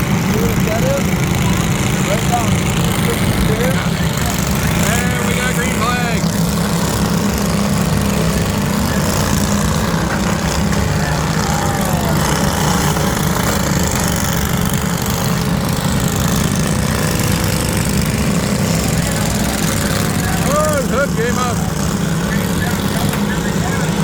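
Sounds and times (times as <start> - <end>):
lawn mower engines running: 0.0 - 24.0.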